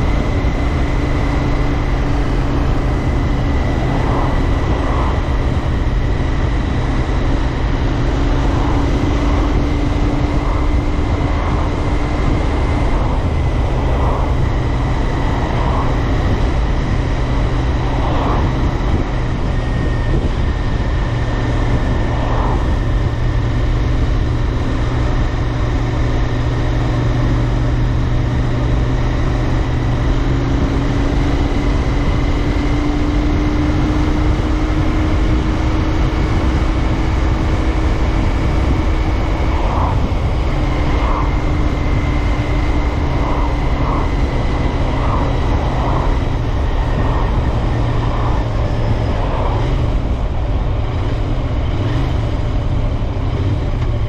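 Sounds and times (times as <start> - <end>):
motorcycle engine cruising: 0.0 - 54.0
road noise: 0.0 - 54.0
wind noise: 0.0 - 54.0.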